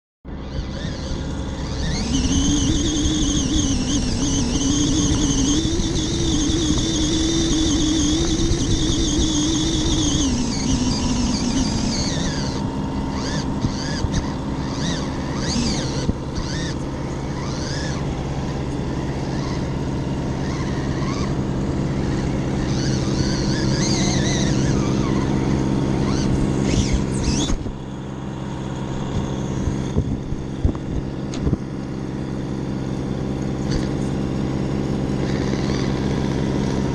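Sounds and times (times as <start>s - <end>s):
electric motor whining: 0.3s - 36.9s
steady low hum: 0.3s - 36.9s.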